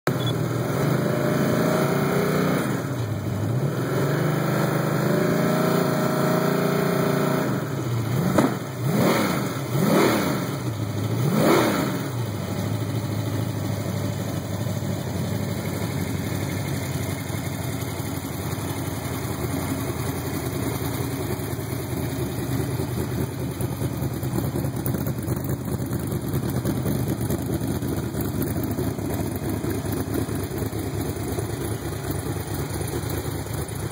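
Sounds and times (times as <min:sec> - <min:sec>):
engine idling and revving: 0:00.0 - 0:33.9.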